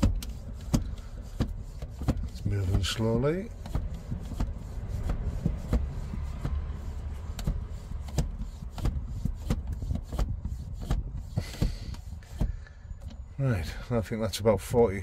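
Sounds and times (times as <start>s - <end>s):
hand pump clicking: 0.0s - 6.5s, 7.2s - 13.2s.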